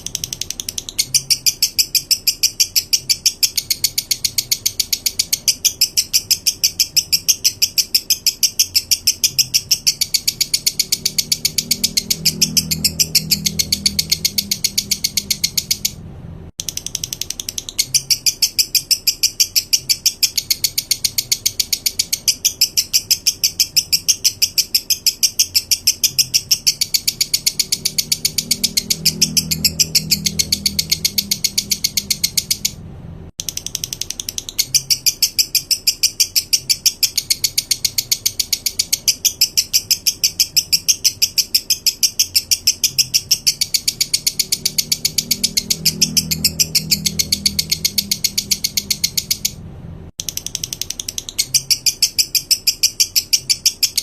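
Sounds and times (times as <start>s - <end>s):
songbird rapid rattling call: 0.0s - 16.0s, 16.6s - 32.8s, 33.4s - 49.6s, 50.2s - 54.0s.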